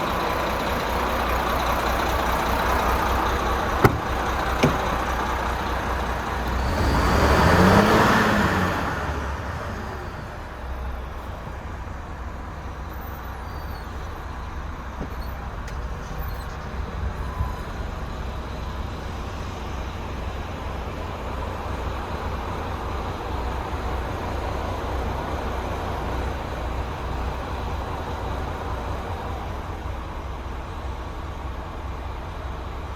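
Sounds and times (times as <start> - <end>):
diesel truck engine idling: 0.0 - 32.9.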